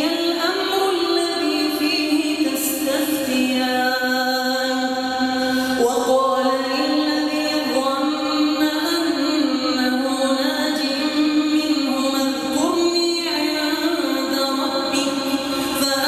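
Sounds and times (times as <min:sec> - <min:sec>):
person chanting recitation: 0:00.0 - 0:16.0.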